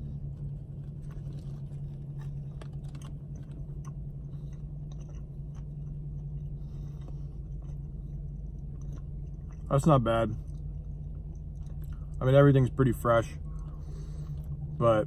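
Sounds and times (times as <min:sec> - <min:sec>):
man chewing: 0:00.0 - 0:12.2, 0:13.4 - 0:14.8
low car cabin hum: 0:00.0 - 0:15.0.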